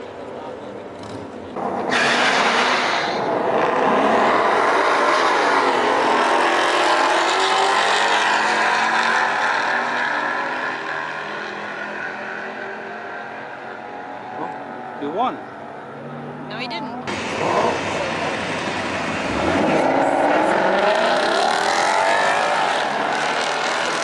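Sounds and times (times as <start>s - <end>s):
cars accelerating hard: 1.0s - 24.0s.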